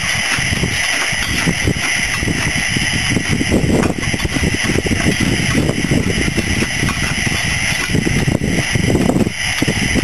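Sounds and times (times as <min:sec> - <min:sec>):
low rattle and rustle: 0:00.0 - 0:10.0
steam locomotive hissing: 0:00.0 - 0:10.0.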